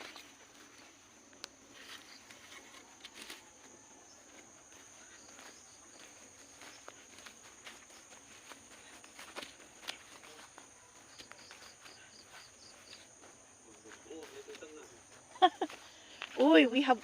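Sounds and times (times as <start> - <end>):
crickets droning: 0.0 - 17.0.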